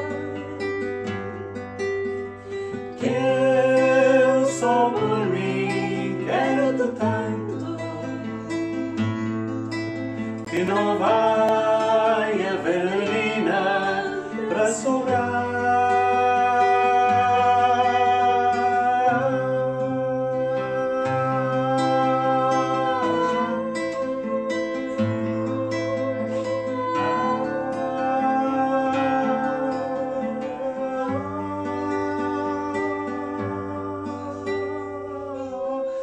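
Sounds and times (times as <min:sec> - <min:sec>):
plucked acoustic guitar: 0:00.0 - 0:36.0.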